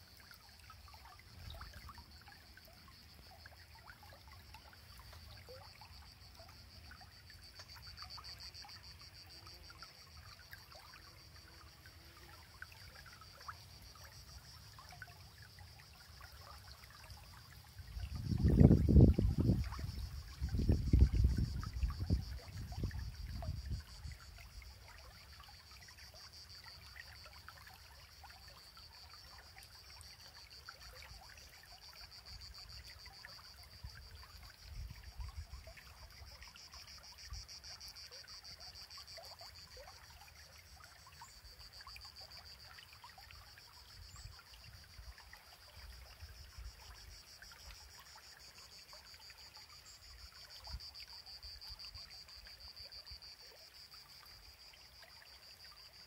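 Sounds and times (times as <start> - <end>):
stream trickling: 0.0 - 56.0.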